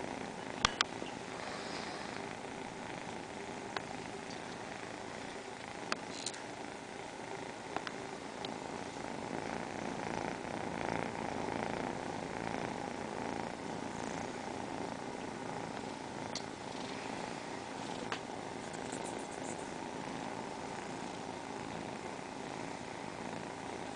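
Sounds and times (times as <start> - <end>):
kittens purring: 0.0 - 23.9.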